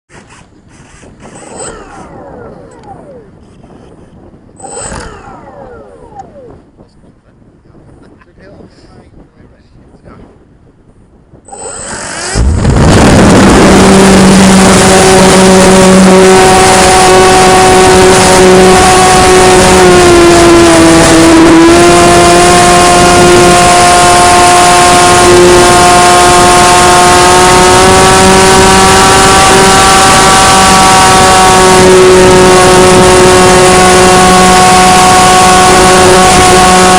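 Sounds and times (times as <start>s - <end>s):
wind rush: 0.1s - 36.9s
model airplane motor whine: 1.2s - 4.0s, 4.6s - 6.6s, 11.5s - 36.9s.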